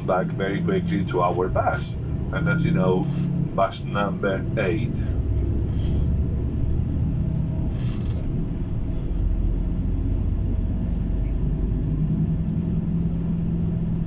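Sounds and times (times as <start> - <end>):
coach engine and road rumble: 0.0 - 14.0.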